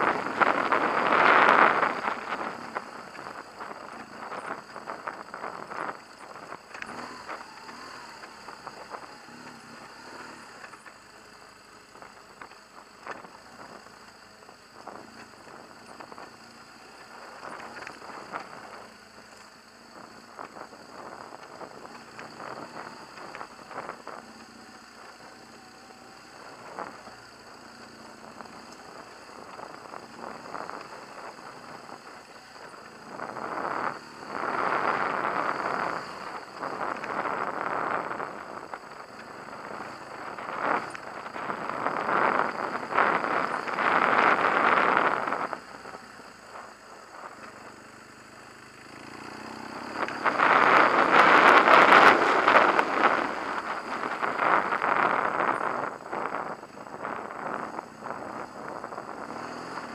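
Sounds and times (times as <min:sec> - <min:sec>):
knocks and rattles over ruts: 0:00.0 - 0:59.9
motorcycle engine running: 0:00.0 - 0:59.9.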